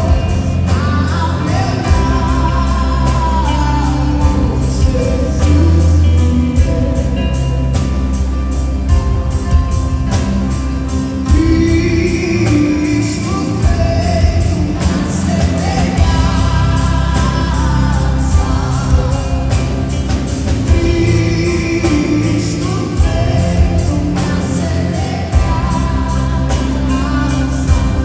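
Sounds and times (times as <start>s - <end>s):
person singing: 0.0s - 8.4s, 10.8s - 28.0s
band playing: 0.0s - 28.0s
deep bass: 0.0s - 28.0s
steady drum beat: 0.0s - 28.0s.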